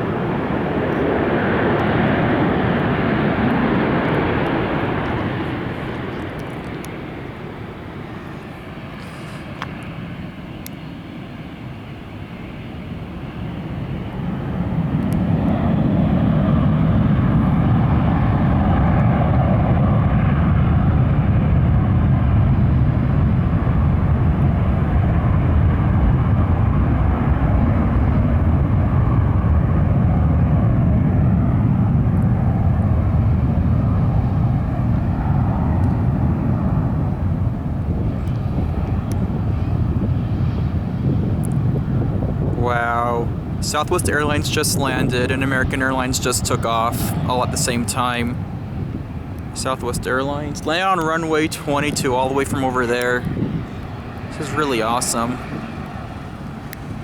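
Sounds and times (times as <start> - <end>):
jet engines at takeoff thrust: 0.0 - 57.0.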